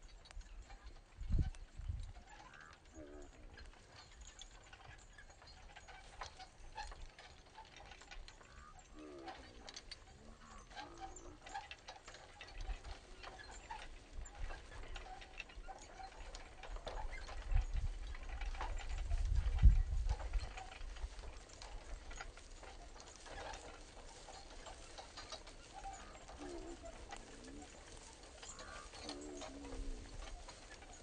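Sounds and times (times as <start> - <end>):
carriage and harness rattling: 0.0 - 31.0
soft hoofbeats: 0.0 - 31.0.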